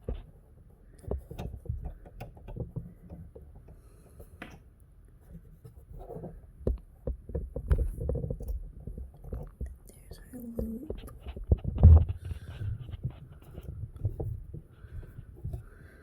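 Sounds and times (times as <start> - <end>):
clicks taps and rubbing of thread: 0.9 - 4.7, 6.2 - 15.7.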